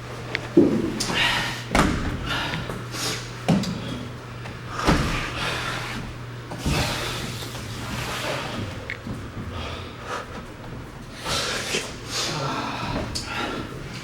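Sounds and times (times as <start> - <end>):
hard noisy breathing: 0.0 - 14.0.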